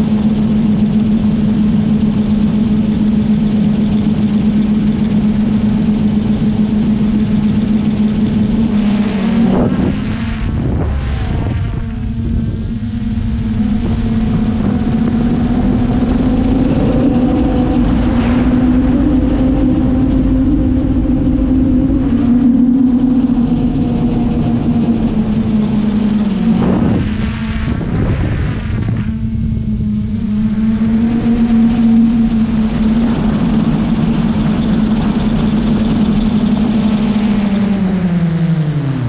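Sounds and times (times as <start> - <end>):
drone propellers humming: 0.0 - 39.0
wind rush: 0.0 - 39.0.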